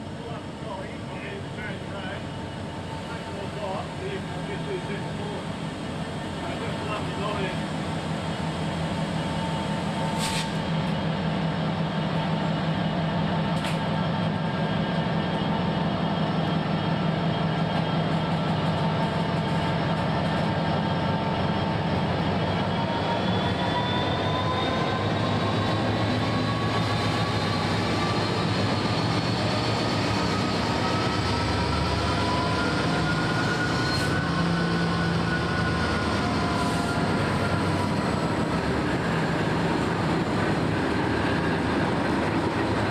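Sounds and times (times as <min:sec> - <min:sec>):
locomotive engine drone: 0:00.0 - 0:42.9.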